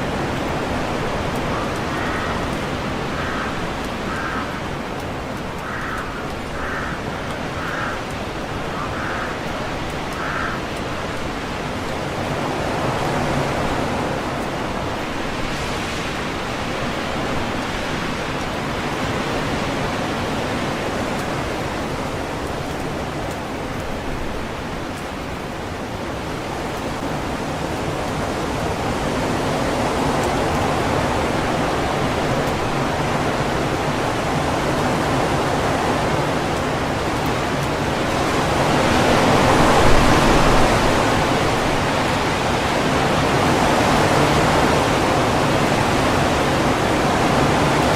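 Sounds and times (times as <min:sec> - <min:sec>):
wind rushing through trees: 0:00.0 - 0:47.9.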